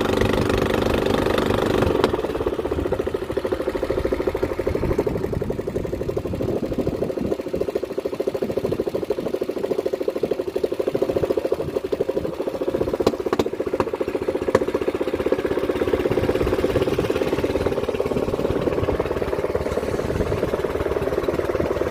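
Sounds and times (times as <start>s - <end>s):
boat engine puttering: 0.0s - 21.9s.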